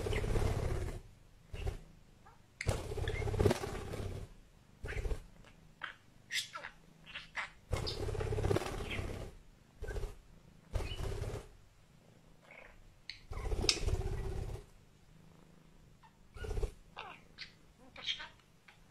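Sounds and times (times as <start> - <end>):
cat purring: 0.0 - 18.9.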